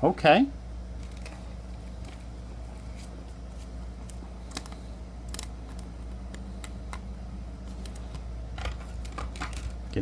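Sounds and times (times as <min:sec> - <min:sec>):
steady low hum: 0:00.0 - 0:10.0
cards clicking and rustling: 0:01.0 - 0:10.0.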